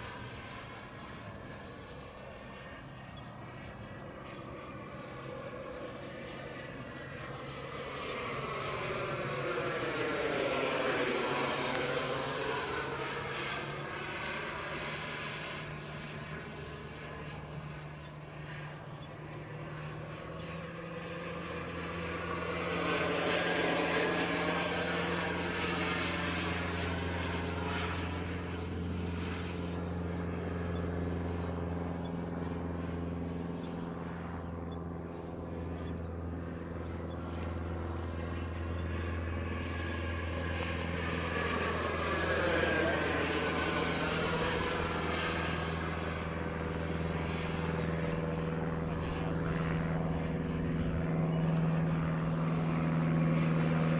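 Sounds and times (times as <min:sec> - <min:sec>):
model jet fan whining overhead: 0:00.0 - 0:53.9.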